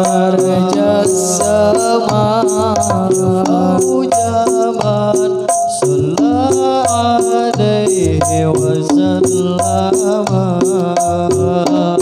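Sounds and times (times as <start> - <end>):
frame drums beating: 0.0 - 12.0.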